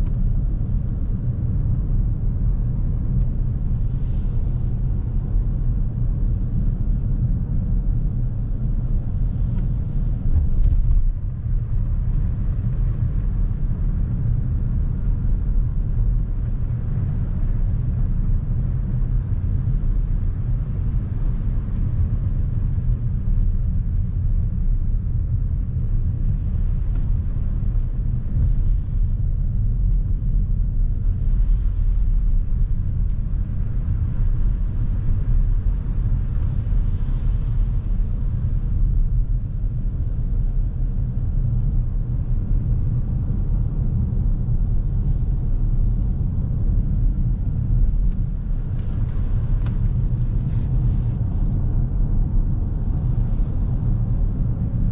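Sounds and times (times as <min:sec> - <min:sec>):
car road and tyre rumble: 0:00.0 - 0:54.9.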